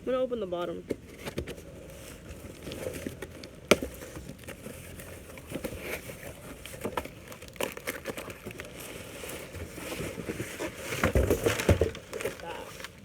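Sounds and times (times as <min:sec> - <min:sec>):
packaging crinkling: 0:01.5 - 0:13.0.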